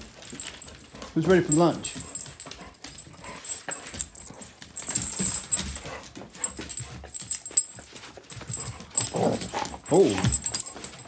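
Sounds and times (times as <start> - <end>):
dogs scuffling and playing: 0.0 - 11.0
paws and claws clicking on floor: 0.0 - 11.0.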